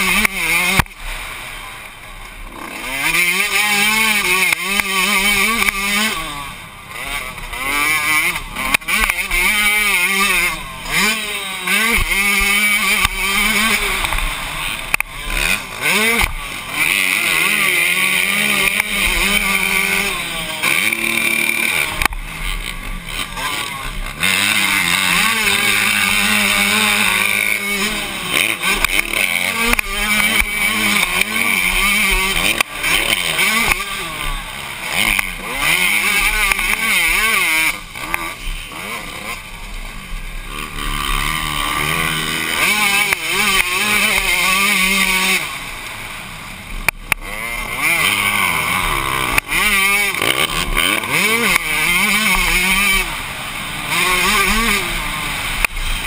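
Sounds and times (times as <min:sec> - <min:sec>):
motocross engine revving: 0:00.0 - 0:56.0.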